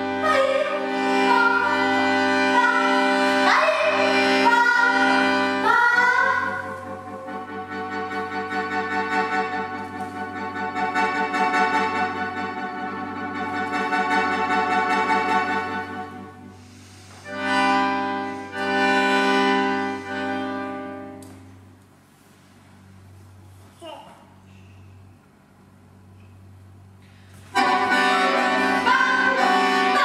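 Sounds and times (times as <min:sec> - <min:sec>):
accordion chords: 0:00.0 - 0:22.0, 0:26.4 - 0:30.0.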